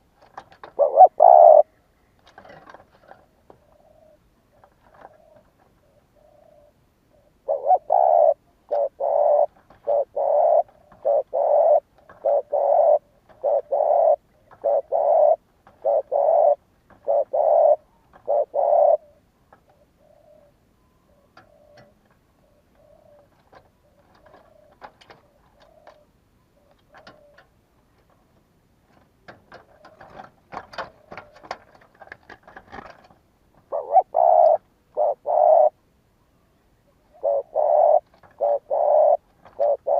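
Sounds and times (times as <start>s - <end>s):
dove cooing: 0.0s - 27.5s, 28.9s - 35.8s, 36.4s - 39.9s.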